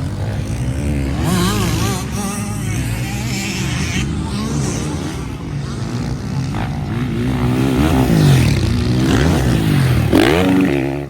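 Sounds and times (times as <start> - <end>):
motocross bikes revving: 0.0 - 11.0.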